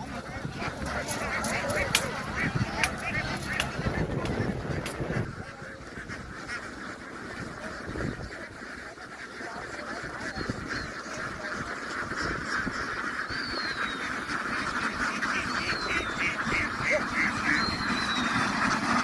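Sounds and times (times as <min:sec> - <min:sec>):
ducks quacking: 0:00.0 - 0:19.0.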